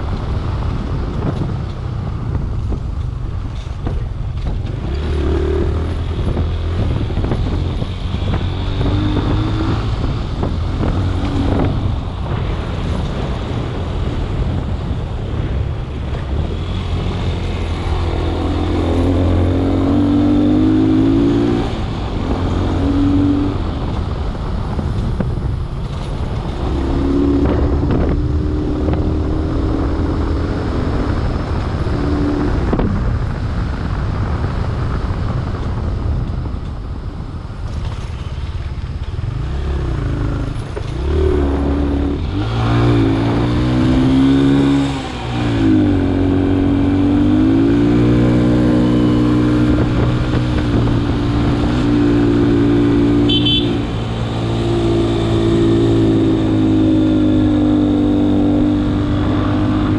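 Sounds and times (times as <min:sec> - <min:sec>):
knocks on rough dirt track: 0:00.0 - 0:29.5, 0:32.6 - 0:59.9
vehicle engine rumbling and revving: 0:00.0 - 0:59.9.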